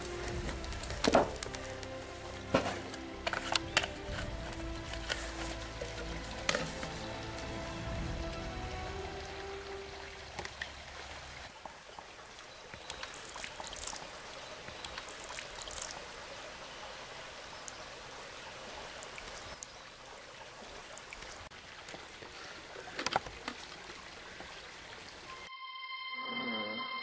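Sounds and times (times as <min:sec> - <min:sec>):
creek water splashing and trickling: 0:00.0 - 0:25.5.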